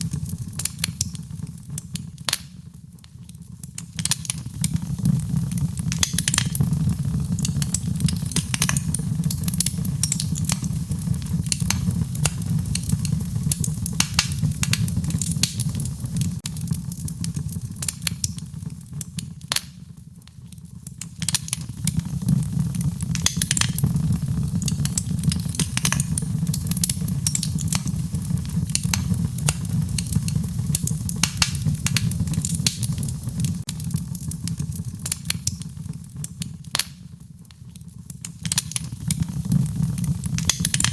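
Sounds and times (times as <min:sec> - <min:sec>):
low rumble of flames: 0:00.0 - 0:40.9
sharp fire pops: 0:00.0 - 0:40.9
wood fire crackling: 0:00.0 - 0:40.9.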